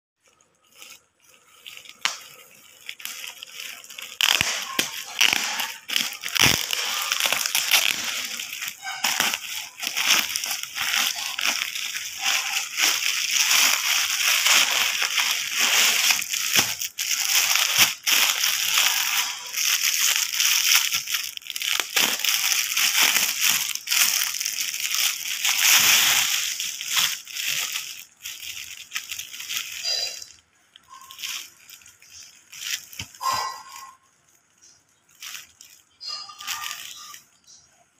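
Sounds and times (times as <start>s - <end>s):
plastic wrapping crinkling: 0.2s - 37.9s.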